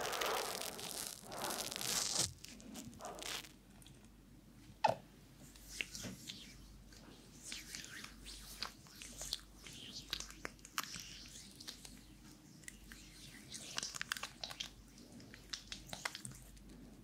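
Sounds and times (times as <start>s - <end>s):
oily palms rubbing together: 0.0s - 3.6s, 5.4s - 17.0s.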